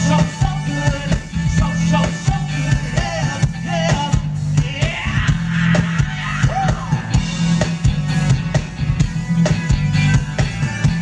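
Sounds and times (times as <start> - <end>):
drum kit beat: 0.0 - 11.0
electric bass line: 0.0 - 11.0
funk band playing live: 0.0 - 11.0.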